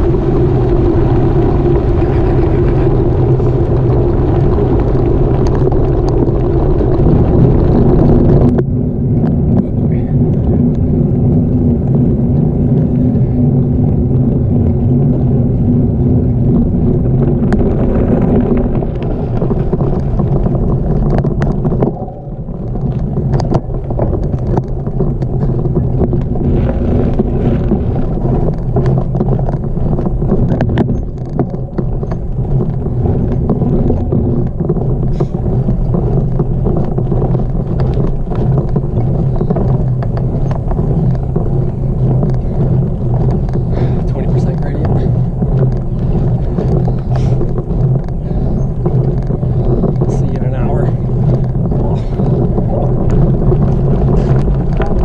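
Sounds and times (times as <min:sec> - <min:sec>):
bicycle tyres rumbling on gravel: 0:00.0 - 0:55.0
stones and bike rattling: 0:00.0 - 0:55.0.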